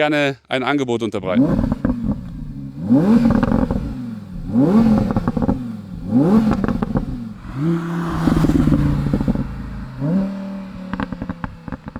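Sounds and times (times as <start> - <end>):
exhaust pops and crackles: 1.3 - 7.6, 8.2 - 11.9
car engine revving in blips: 1.4 - 11.9.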